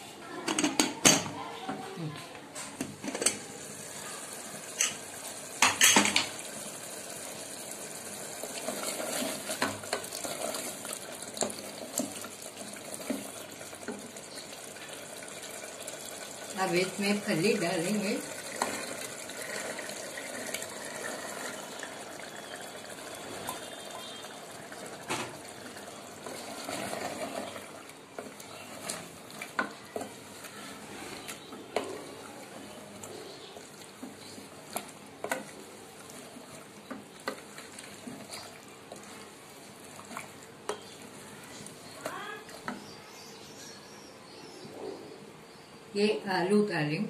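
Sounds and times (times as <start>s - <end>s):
food sizzling in a pot: 3.0s - 44.0s.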